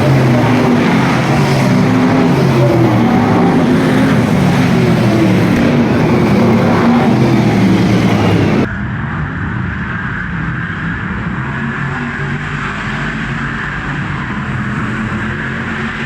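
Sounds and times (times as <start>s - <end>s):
dull engine sound: 0.0s - 16.0s
stock car engines running hard: 0.0s - 16.0s.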